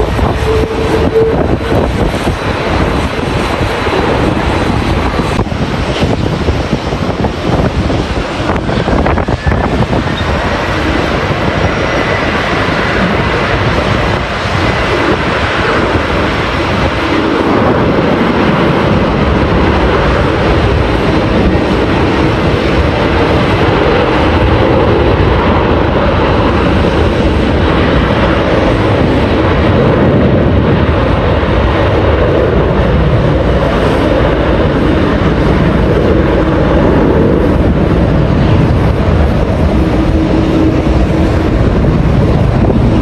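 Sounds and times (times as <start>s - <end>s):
jet engines running: 0.0s - 43.0s
wind buffeting microphone: 0.0s - 43.0s.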